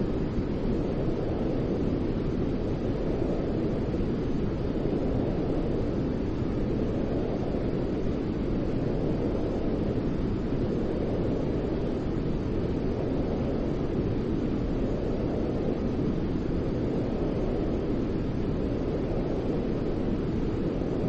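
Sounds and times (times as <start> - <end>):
low muffled white noise: 0.0 - 21.0.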